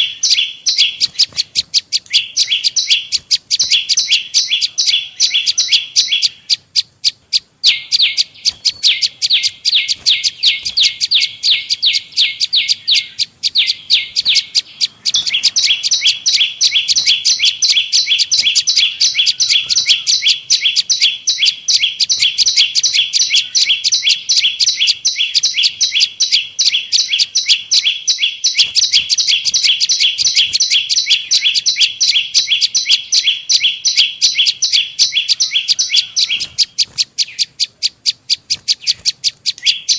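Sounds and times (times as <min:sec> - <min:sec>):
high downward-sweeping bird chirps: 0:00.0 - 0:39.9.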